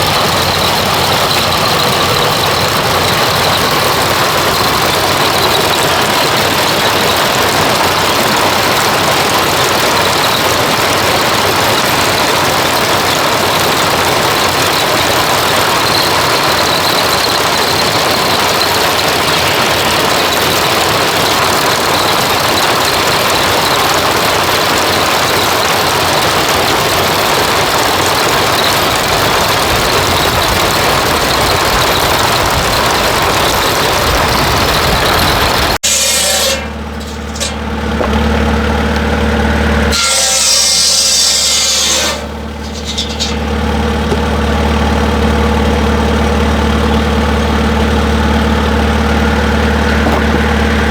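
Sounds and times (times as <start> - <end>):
engine running loudly: 0.0 - 50.9.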